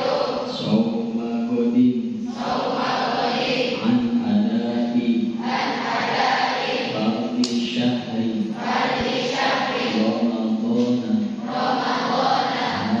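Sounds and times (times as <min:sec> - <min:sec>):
congregation chanting in unison: 0:00.0 - 0:13.0.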